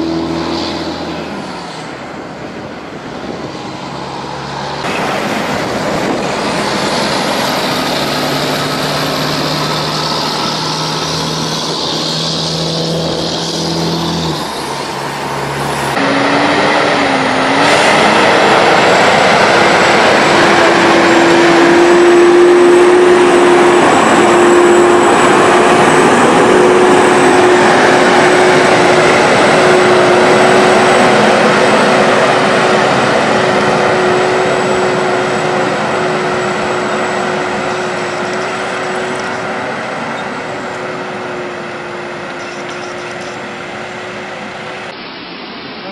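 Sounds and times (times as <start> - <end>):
truck diesel engines under load: 0.0 - 45.9
truck engine drone with whine: 0.0 - 45.9
tyre and road noise: 0.0 - 45.9.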